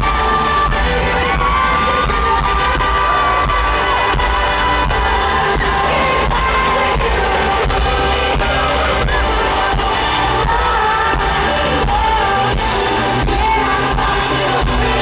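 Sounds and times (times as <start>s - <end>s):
band with heavy bass and drums: 0.0s - 15.0s.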